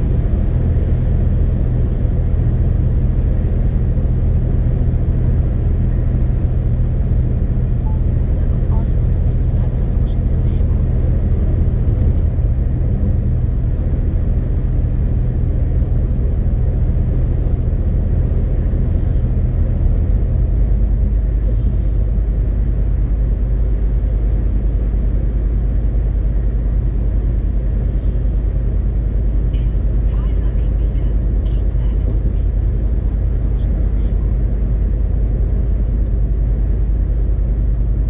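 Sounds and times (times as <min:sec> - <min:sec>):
road noise: 0:00.0 - 0:38.0
truck diesel engine droning: 0:00.0 - 0:38.0.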